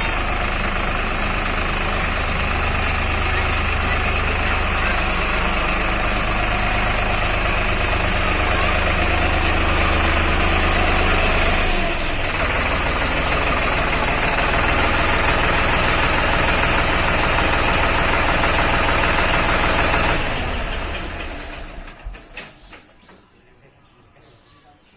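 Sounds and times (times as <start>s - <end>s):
tractor diesel engine running: 0.0s - 22.8s.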